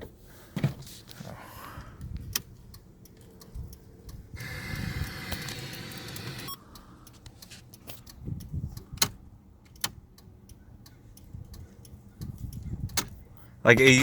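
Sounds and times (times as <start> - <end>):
turn signal relay clicking: 2.0 - 13.5.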